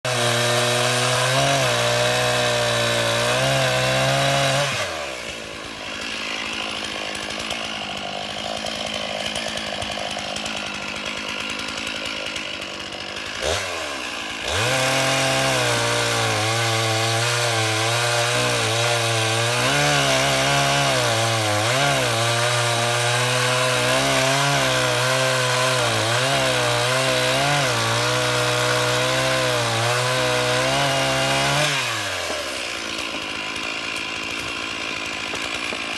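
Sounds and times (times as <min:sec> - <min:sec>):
small engine revving and idling: 0:00.0 - 0:35.9.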